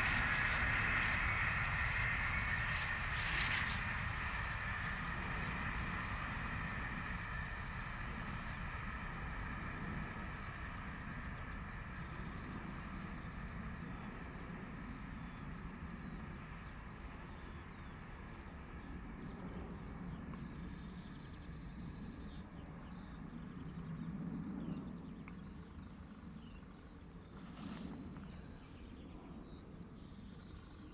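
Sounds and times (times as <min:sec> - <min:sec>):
birds chirping: 0:00.0 - 0:30.9
distant steam train rumble: 0:00.0 - 0:30.9.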